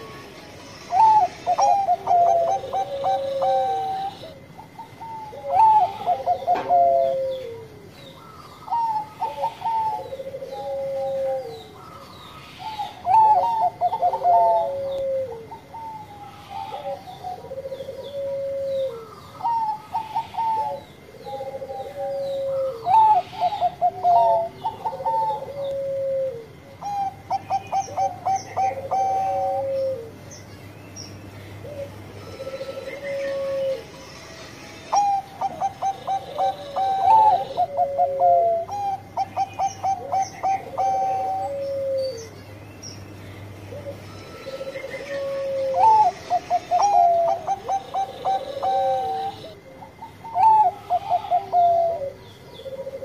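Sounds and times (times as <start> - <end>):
dove cooing: 0.0 - 30.4, 31.5 - 42.4, 43.4 - 53.0.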